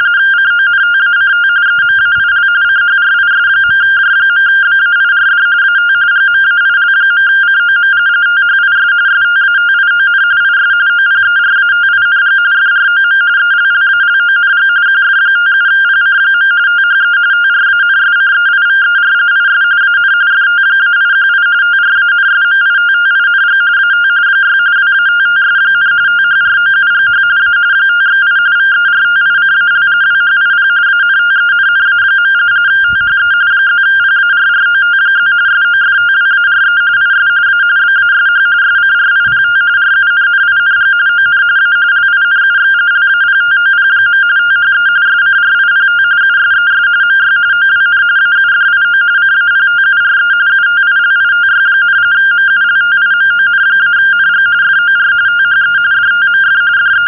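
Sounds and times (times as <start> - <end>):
two-tone data signal warble: 0.0 - 57.0.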